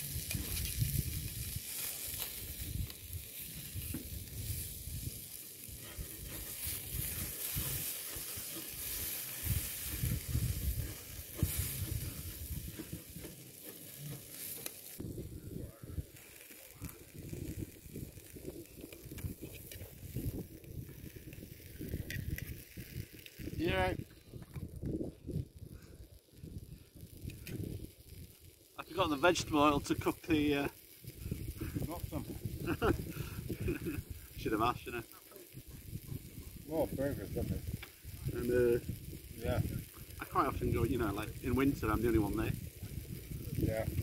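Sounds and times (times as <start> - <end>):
food sizzling in frying pan: 0.0 - 44.0.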